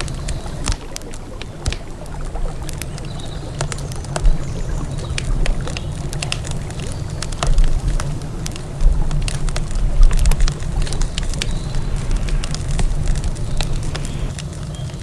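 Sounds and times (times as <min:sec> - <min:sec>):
river water rumbling: 0:00.0 - 0:14.7
campfire crackling and popping: 0:00.0 - 0:15.0.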